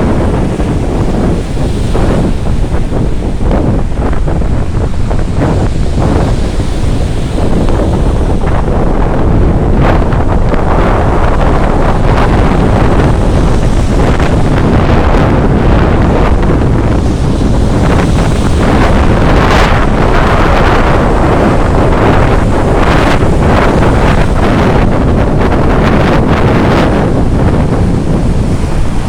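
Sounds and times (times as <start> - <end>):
sea surf breaking on shore: 0.0 - 29.0
wind buffeting microphone: 0.0 - 29.0.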